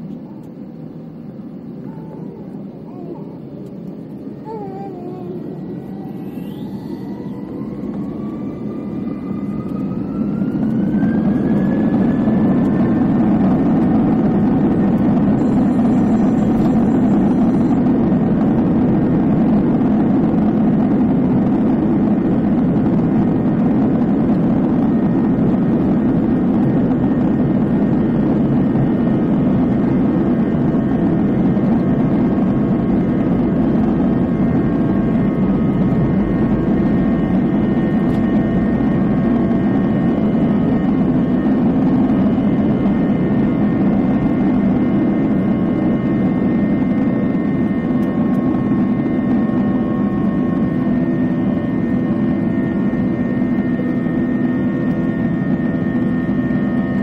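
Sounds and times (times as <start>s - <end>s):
jet engines roaring: 5.2s - 57.0s.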